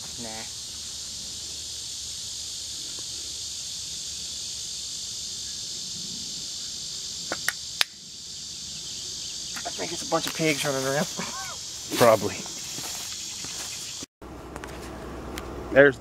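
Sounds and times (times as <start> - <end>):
insect chorus drone: 0.0 - 14.1.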